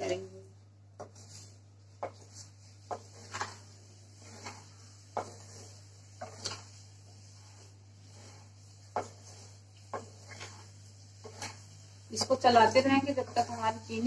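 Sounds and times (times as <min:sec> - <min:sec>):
wooden spatula scraping a pan: 0:00.0 - 0:14.0.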